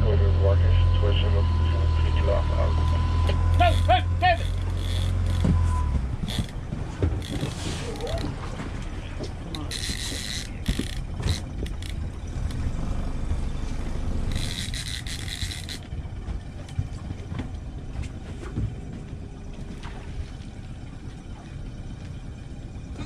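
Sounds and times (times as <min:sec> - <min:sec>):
boat engine rumbling: 0:00.0 - 0:23.0
wind: 0:00.0 - 0:23.0
water noise: 0:01.4 - 0:23.0.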